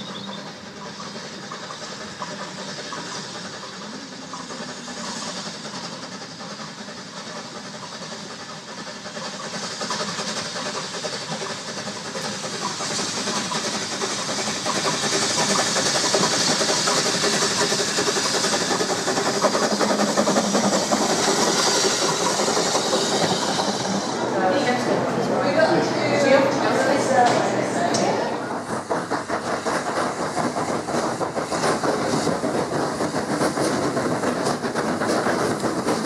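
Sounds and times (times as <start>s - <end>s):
hiss of steam: 0.0s - 36.0s
steam locomotive running past: 0.0s - 36.0s.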